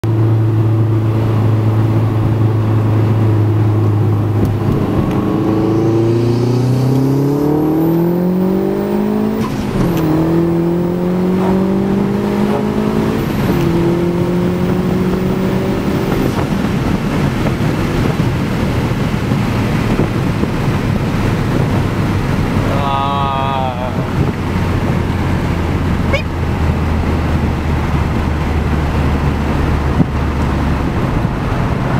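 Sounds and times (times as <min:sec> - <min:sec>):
car engine revving: 0:00.0 - 0:31.9
wind and road noise: 0:00.0 - 0:31.9.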